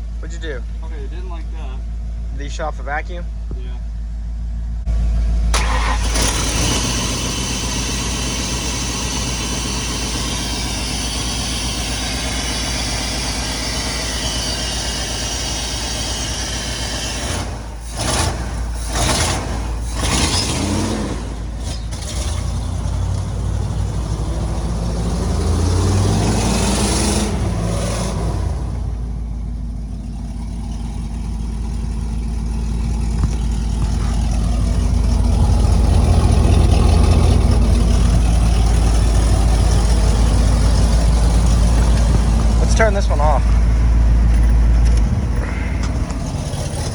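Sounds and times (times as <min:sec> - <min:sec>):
engine running rough: 0:00.0 - 0:46.9.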